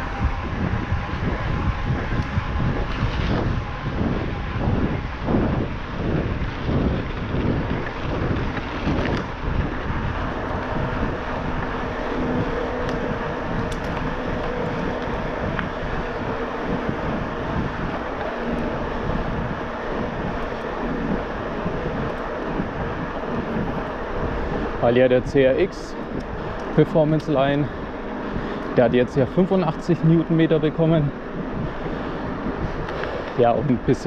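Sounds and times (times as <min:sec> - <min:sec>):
faint electric motor hum: 0:00.0 - 0:34.0
wind rushing over microphone: 0:00.0 - 0:34.0.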